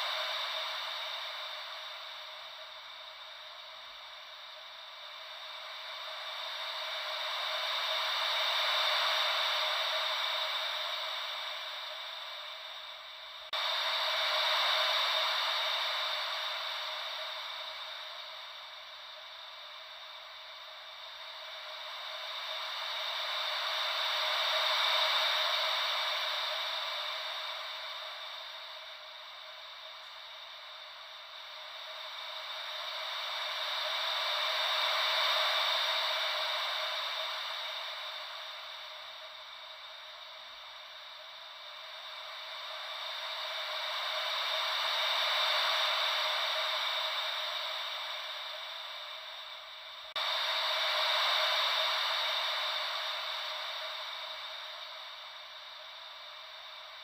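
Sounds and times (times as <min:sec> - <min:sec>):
ocean wave white noise: 0:00.0 - 0:57.0.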